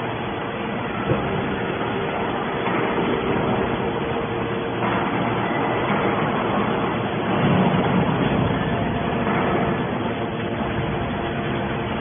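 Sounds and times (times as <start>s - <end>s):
baler machine humming: 0.0s - 12.0s
hydraulic pump whine: 0.0s - 12.0s.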